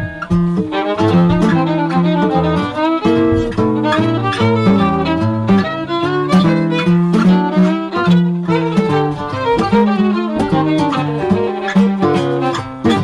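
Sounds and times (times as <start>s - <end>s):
fiddle tune: 0.0s - 13.0s
strummed acoustic guitar: 0.0s - 13.0s.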